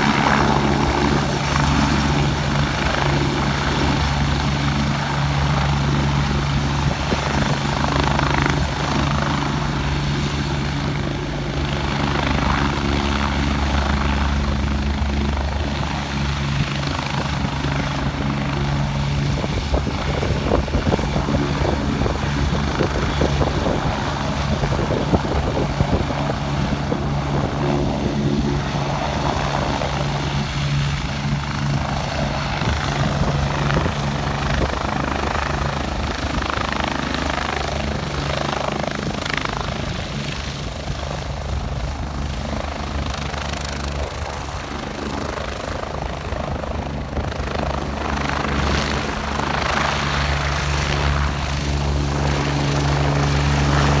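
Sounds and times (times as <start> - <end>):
helicopter rotor drone: 0.0 - 54.0.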